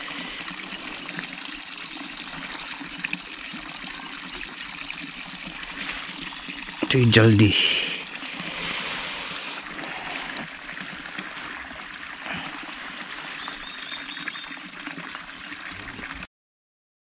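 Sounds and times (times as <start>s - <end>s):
water splashing into a pond: 0.0s - 16.3s.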